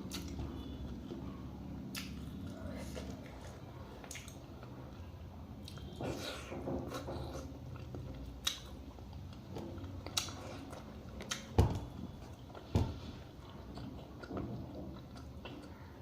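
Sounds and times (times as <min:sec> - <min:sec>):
chewing and mouth noises: 0:00.0 - 0:16.0.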